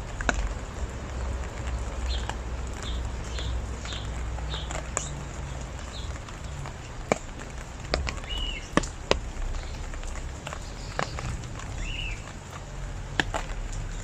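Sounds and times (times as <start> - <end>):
rain hiss: 0.0 - 14.0
bird chirping: 0.4 - 14.0.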